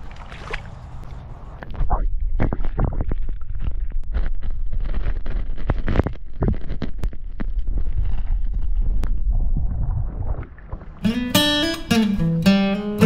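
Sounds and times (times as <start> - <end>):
underwater water rumble: 0.0 - 11.0.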